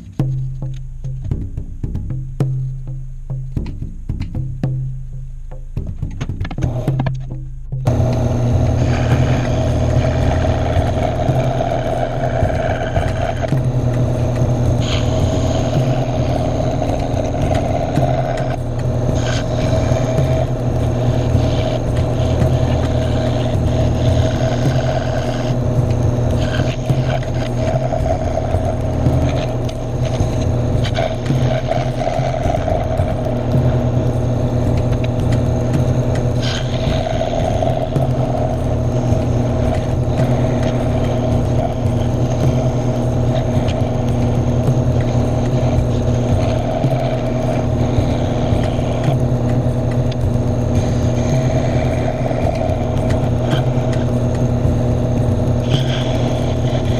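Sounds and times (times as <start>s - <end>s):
scroll saw cutting wood: 7.9s - 56.9s.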